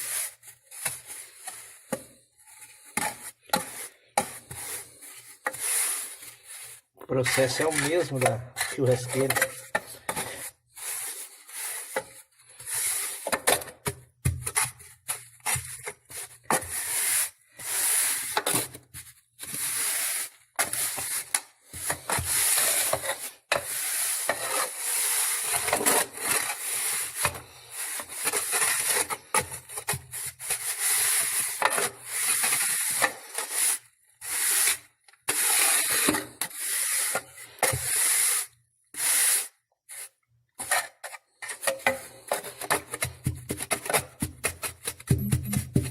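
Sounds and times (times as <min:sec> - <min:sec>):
hand tool scraping coarse salt: 0:00.0 - 0:13.5, 0:15.4 - 0:18.8, 0:19.4 - 0:45.9.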